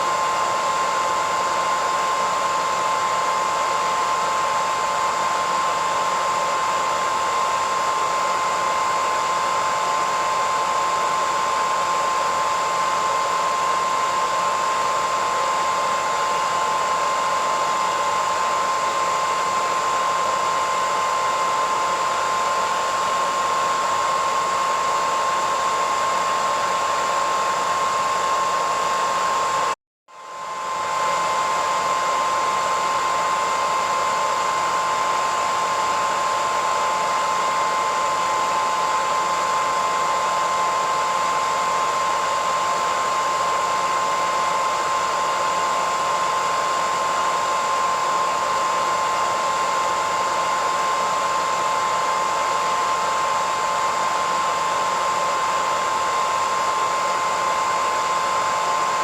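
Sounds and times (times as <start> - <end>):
hairdryer running: 0.0 - 59.0.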